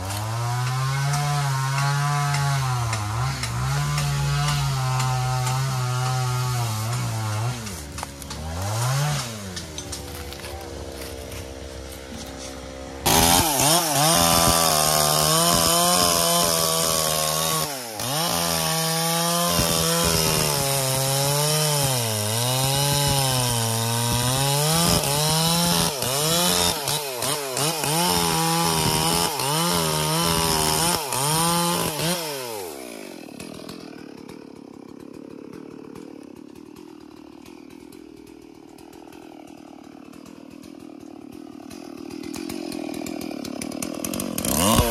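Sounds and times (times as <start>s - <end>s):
chainsaw cutting through log: 0.0s - 44.9s.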